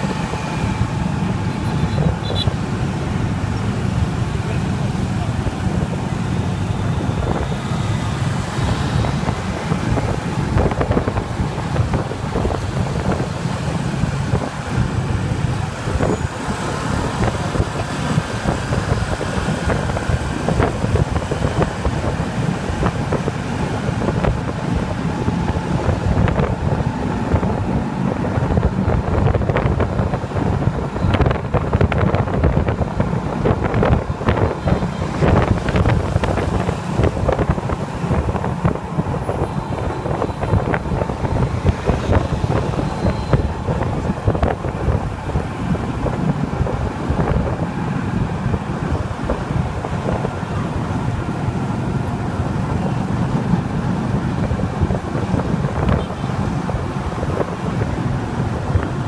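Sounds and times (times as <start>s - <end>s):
motorbike running: 0.0s - 59.0s
wind buffeting microphone: 0.0s - 59.0s.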